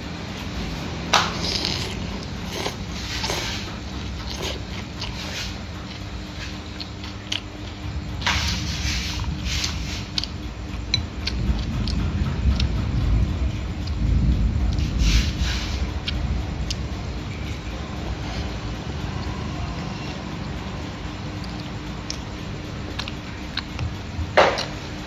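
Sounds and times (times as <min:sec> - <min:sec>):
low rumble: 0:00.0 - 0:25.0
person chewing food: 0:00.4 - 0:12.9, 0:13.8 - 0:14.0, 0:14.7 - 0:25.0.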